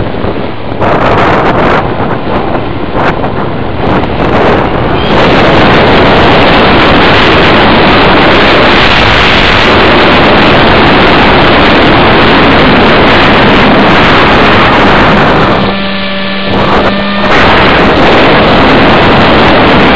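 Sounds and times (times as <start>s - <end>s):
wind rushing over microphone: 0.0s - 19.9s.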